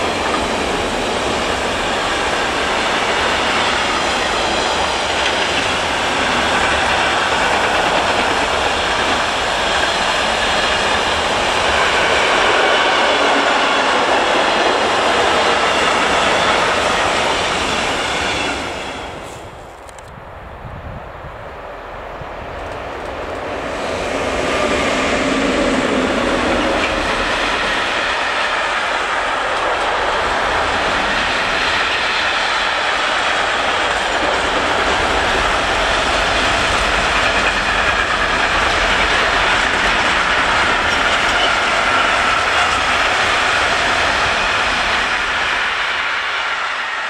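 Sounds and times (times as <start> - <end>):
freight train passing: 0.0 - 47.0.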